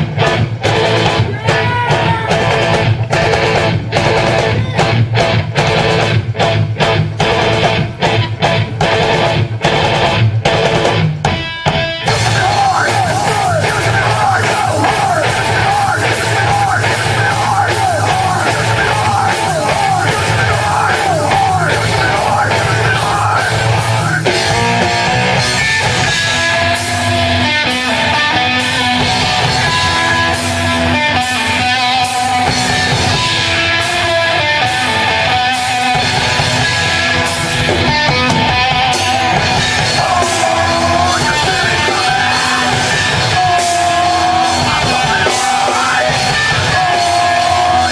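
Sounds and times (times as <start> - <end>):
rock band playing live: 0.0 - 47.9.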